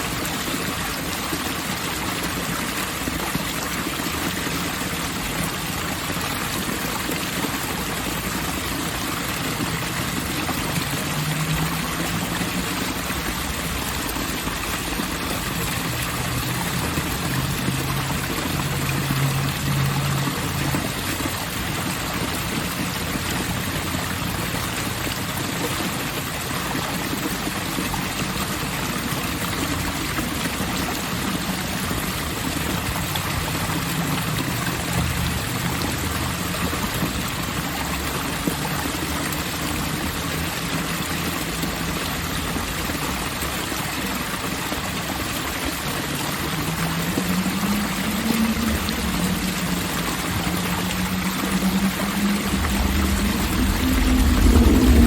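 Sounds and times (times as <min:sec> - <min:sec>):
water flowing and splashing: 0:00.0 - 0:55.0.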